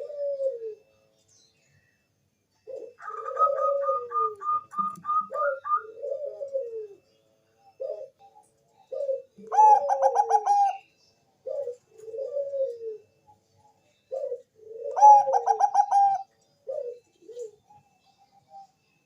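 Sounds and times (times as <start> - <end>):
dove cooing song: 0.0 - 1.0, 2.6 - 18.9.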